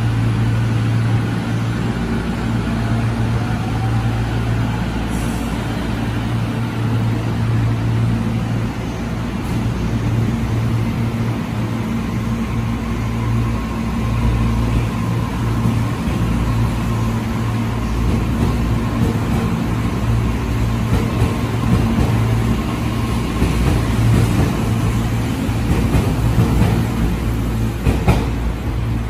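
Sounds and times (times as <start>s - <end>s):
electric train humming and whining: 0.0s - 29.0s.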